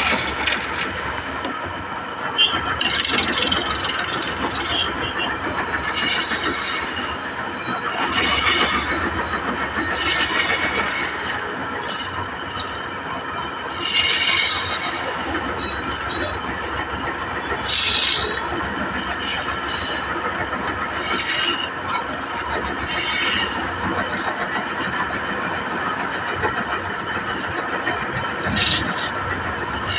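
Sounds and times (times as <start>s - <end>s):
higher-pitched machine whine: 0.0s - 29.9s
machine running steadily: 0.0s - 29.9s.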